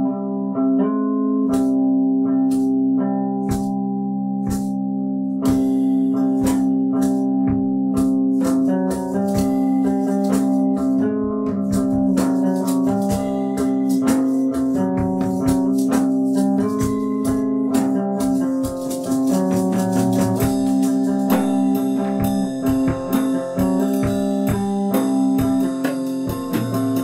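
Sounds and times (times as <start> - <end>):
short plucked notes: 0.0 - 27.0
busy percussive beat: 1.5 - 1.8, 2.5 - 2.8, 3.4 - 3.8, 4.4 - 4.8, 5.4 - 27.0.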